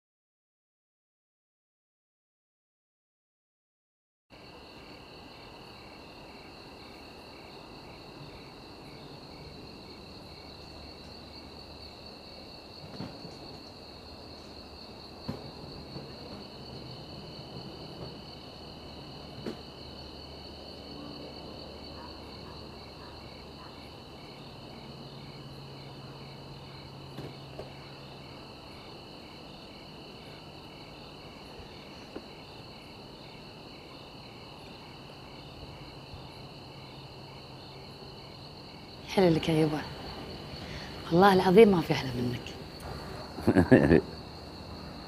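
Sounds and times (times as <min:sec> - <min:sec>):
crickets chirring: 0:04.3 - 0:45.0
pulsing cricket trill: 0:04.4 - 0:45.0.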